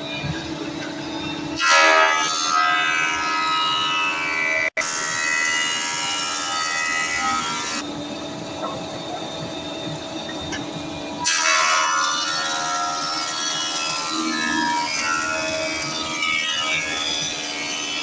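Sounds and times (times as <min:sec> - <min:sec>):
thickness planer whining: 0:00.0 - 0:18.0.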